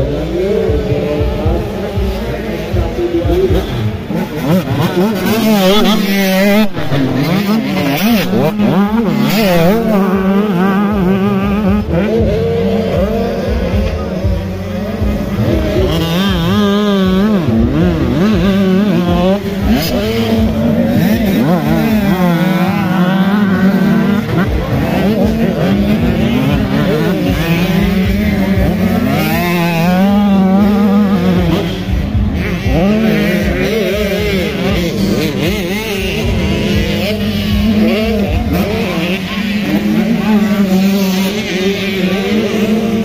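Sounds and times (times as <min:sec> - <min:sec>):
motocross bike engines revving: 0:00.0 - 0:43.0
steady low drone: 0:00.0 - 0:43.0.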